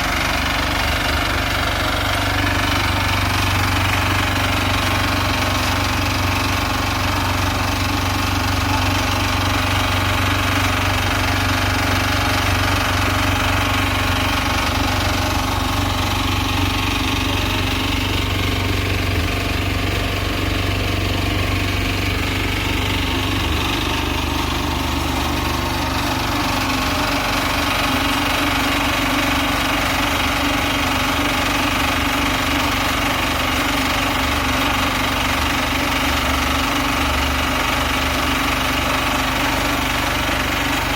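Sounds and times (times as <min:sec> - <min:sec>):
cement mixers running: 0:00.0 - 0:40.9.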